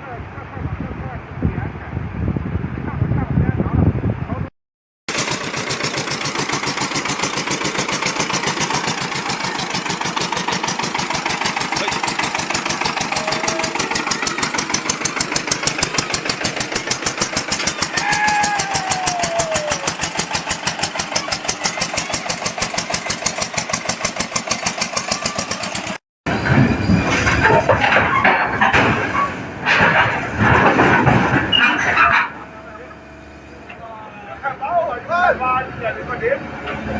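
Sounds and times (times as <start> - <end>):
heavy vehicle engine pulsing: 5.1 - 36.9
rough uneven mechanical noise: 5.1 - 36.9.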